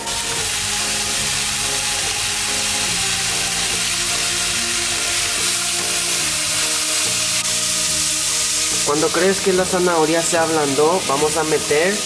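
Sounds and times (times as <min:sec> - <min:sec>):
background music: 0:00.0 - 0:12.0
food sizzling in a frying pan: 0:00.0 - 0:12.0.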